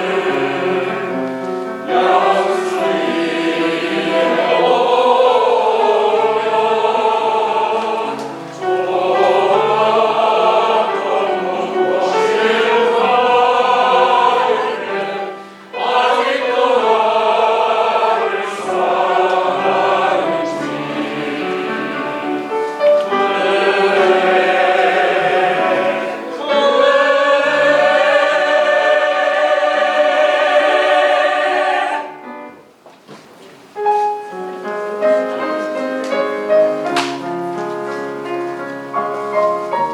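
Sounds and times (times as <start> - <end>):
choir singing: 0.0 - 32.6.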